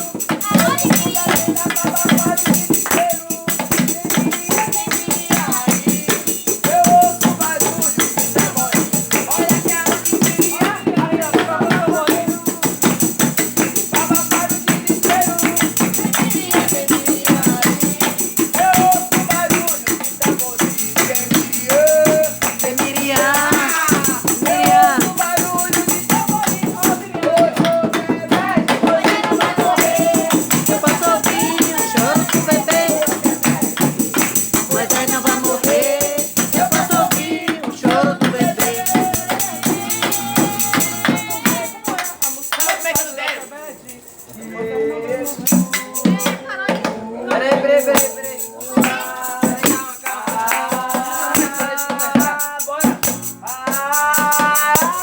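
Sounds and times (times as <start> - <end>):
group singing praise song: 0.0 - 55.0
hand percussion with tambourine: 0.0 - 55.0.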